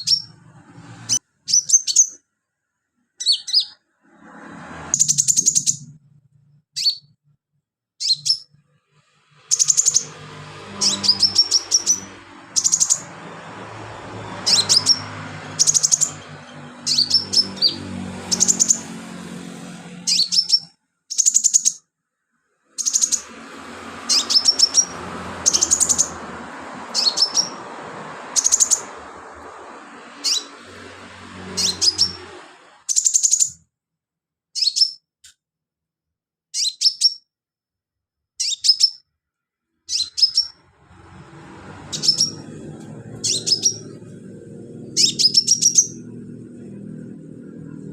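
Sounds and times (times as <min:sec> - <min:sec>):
bird chirping and trilling: 0:00.0 - 0:02.2, 0:03.2 - 0:03.8, 0:04.9 - 0:06.0, 0:06.7 - 0:07.2, 0:08.0 - 0:08.6, 0:09.3 - 0:21.8, 0:22.7 - 0:33.6, 0:34.6 - 0:35.1, 0:36.5 - 0:37.3, 0:38.4 - 0:39.1, 0:39.9 - 0:47.8.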